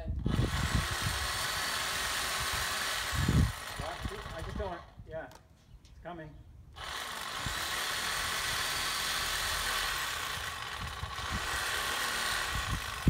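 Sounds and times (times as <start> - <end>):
power saw cutting wood: 0.2 - 4.9, 6.8 - 13.0.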